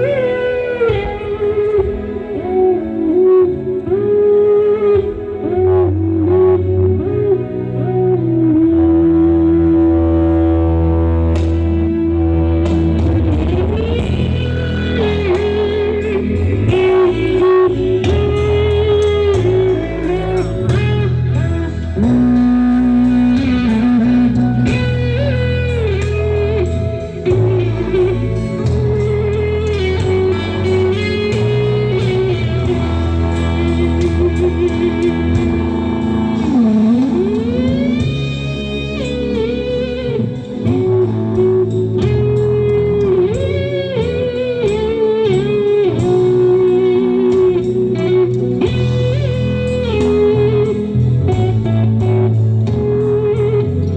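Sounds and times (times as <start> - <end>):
heavy bass: 0.0 - 53.9
loud music through speakers: 0.0 - 53.9.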